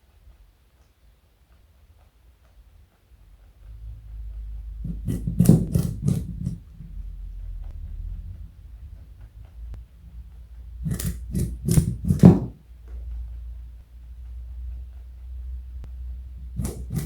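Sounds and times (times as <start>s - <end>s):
rabbit chewing: 1.4s - 17.0s.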